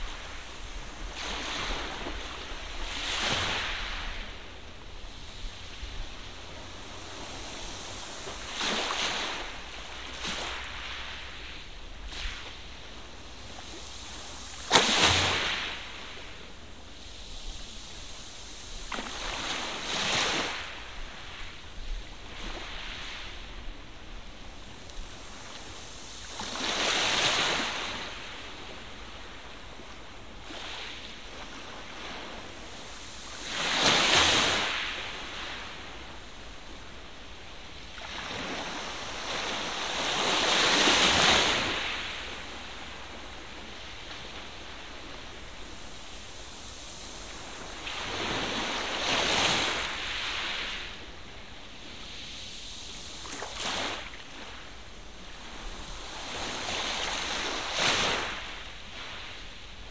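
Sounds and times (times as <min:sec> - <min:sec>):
steady low hiss: 0:00.0 - 0:59.9.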